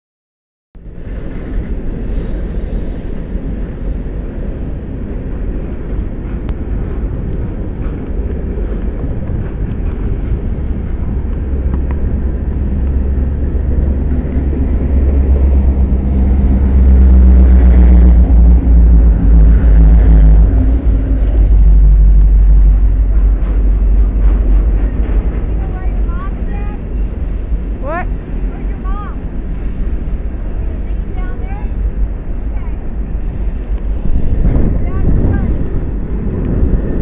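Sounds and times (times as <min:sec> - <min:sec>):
diesel locomotive engine: 0:00.8 - 0:37.0
rumble of train wheels on rail: 0:00.8 - 0:37.0.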